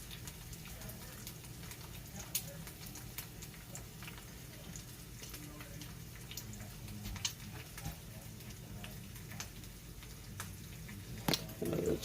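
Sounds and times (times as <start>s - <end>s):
egg frying in fat: 0.0s - 12.0s.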